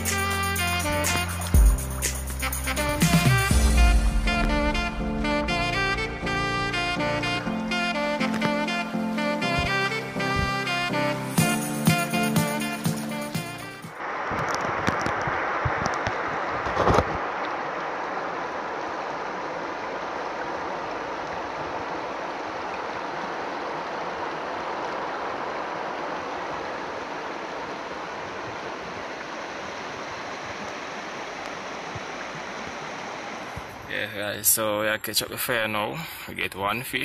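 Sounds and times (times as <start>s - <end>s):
river water rushing over stones: 0.0s - 34.2s.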